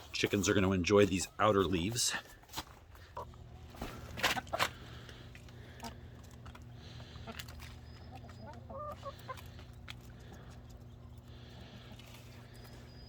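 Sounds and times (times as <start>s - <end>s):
chickens clucking: 0.0s - 13.0s
steady low hum: 0.0s - 13.0s.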